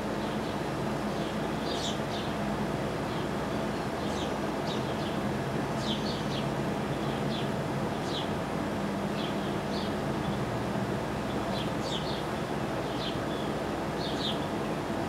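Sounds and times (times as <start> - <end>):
low mechanical hum: 0.0 - 15.0
sparrows chirping: 0.1 - 2.4, 3.0 - 8.3, 9.1 - 10.5, 11.2 - 14.9.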